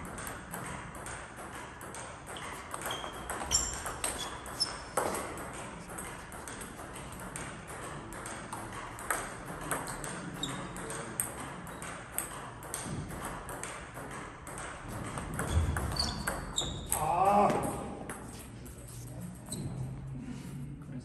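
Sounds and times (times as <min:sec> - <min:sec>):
table tennis ball clicking: 0:00.0 - 0:18.2.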